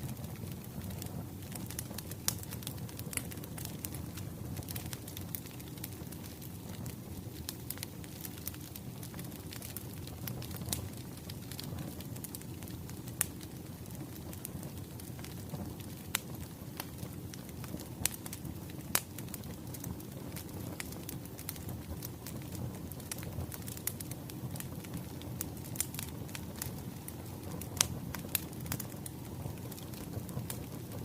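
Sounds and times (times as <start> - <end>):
fire low rumble: 0.0 - 31.0
firewood popping and snapping: 0.2 - 31.0.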